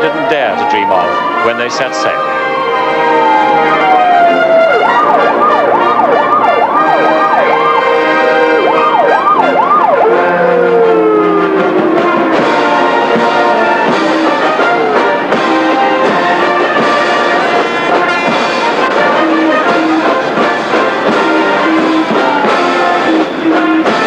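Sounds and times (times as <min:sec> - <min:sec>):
brass band playing: 0:00.0 - 0:24.0.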